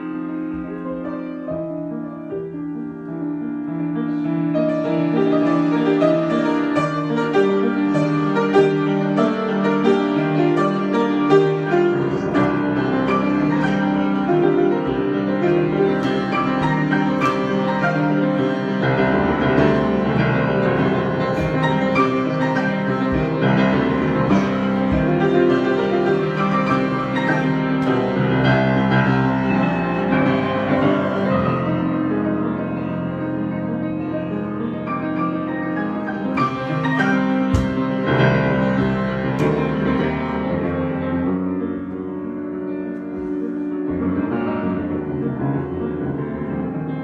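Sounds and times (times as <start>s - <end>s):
solo piano playing: 0.0s - 47.0s.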